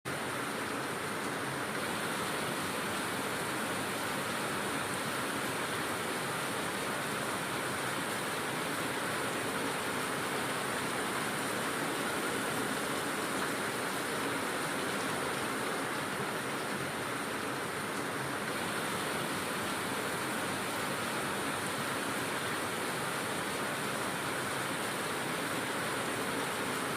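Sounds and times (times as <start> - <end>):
heavy rain pouring: 0.1 - 26.9.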